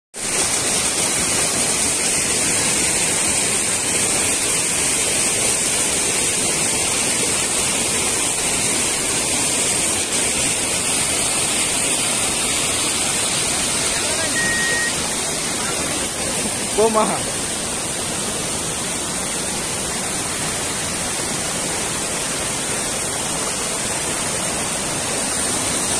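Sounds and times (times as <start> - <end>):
stream rushing over rocks: 0.2 - 25.9.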